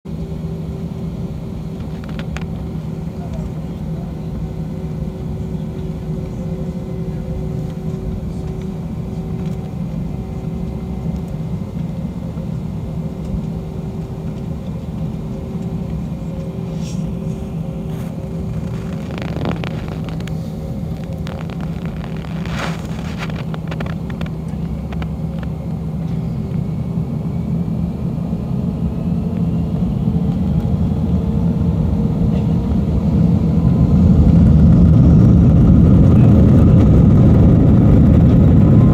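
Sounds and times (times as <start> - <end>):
jet engines rumbling: 0.1 - 38.9
rising engine whine: 0.1 - 38.9.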